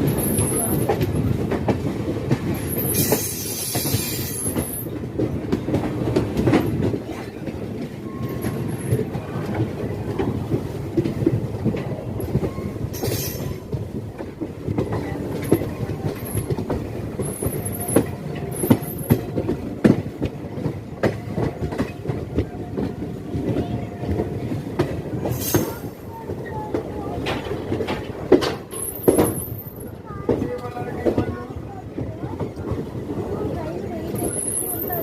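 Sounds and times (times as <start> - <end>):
train coach rumbling on rails: 0.0 - 35.0
wheels clicking over rail joints: 0.0 - 35.0.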